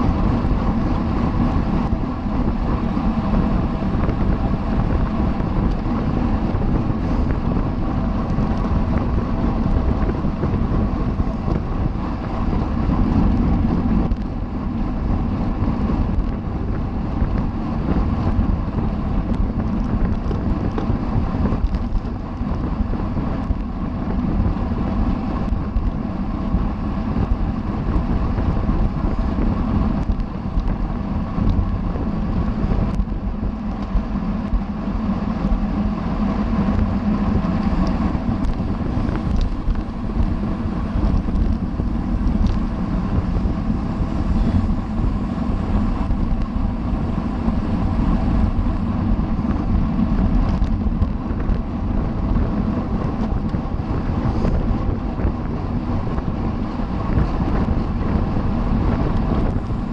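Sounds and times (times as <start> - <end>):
bicycle tyre road noise: 0.0 - 59.9
wind rushing over microphone: 0.0 - 59.9.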